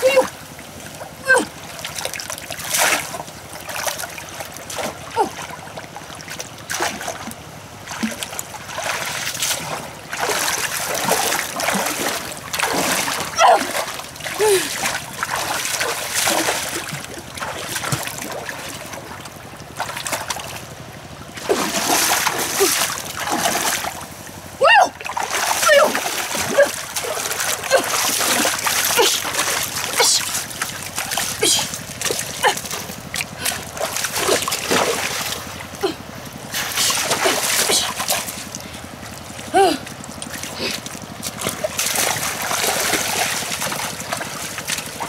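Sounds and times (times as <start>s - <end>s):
low engine running: 0.0s - 45.0s
splashing in muddy water: 0.0s - 45.0s
trickling water: 0.0s - 45.0s.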